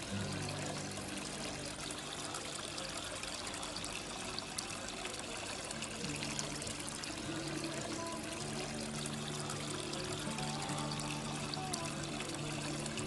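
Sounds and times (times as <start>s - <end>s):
fountain water trickling: 0.0s - 13.0s
soft background music: 0.0s - 13.0s.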